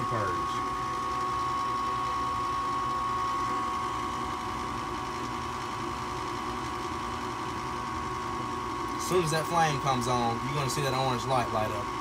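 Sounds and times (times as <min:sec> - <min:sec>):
furnace inducer motor whine: 0:00.0 - 0:12.0.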